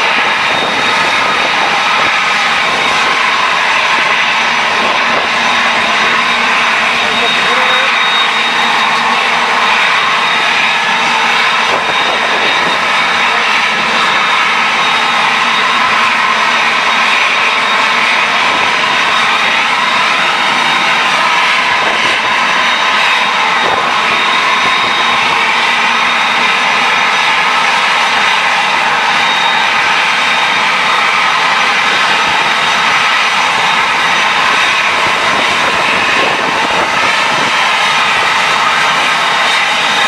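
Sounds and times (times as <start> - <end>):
high engine whine: 0.0 - 40.0
jet engines running: 0.0 - 40.0.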